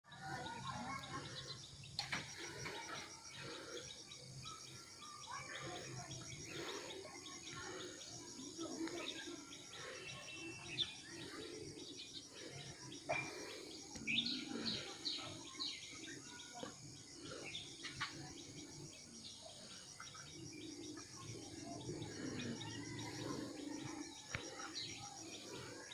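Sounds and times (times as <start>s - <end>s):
outdoor background noise: 0.0s - 25.9s
birds chirping: 0.1s - 25.9s.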